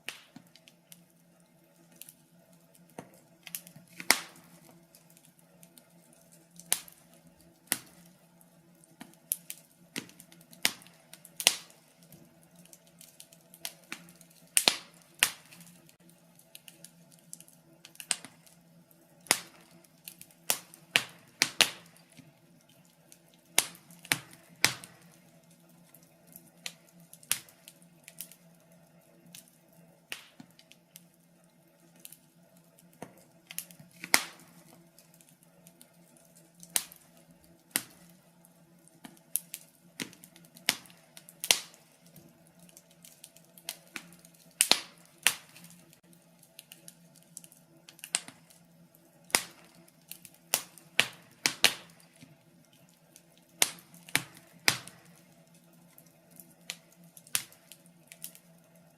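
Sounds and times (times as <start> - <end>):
faint steady hum: 0.0 - 58.9
wood fire crackling: 0.0 - 58.9.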